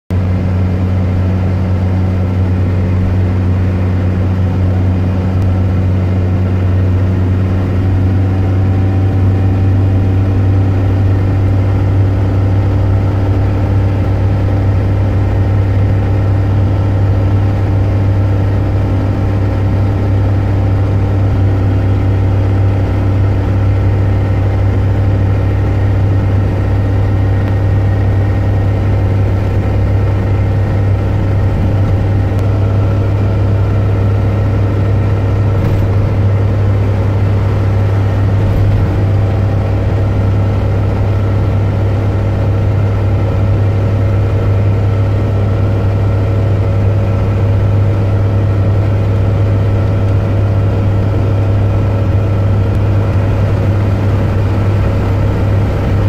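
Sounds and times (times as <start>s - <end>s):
engine and tyre drone: 0.1s - 56.0s.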